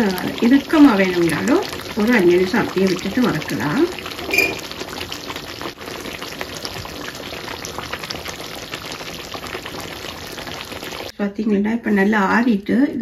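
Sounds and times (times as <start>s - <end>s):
curry boiling with bubbles popping: 0.0s - 11.1s.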